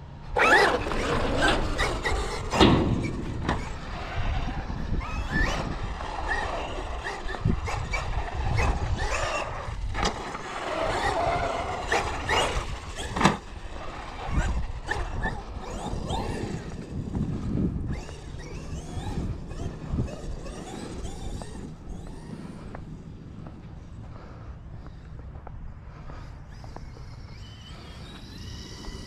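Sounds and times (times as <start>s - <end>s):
electric motor whining: 0.3s - 23.1s, 26.2s - 29.0s.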